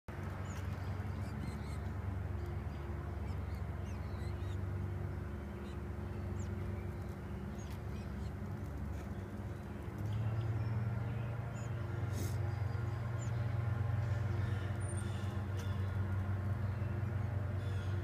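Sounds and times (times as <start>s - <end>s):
small birds chirping: 0.1s - 18.0s
steady low hum: 0.1s - 18.0s.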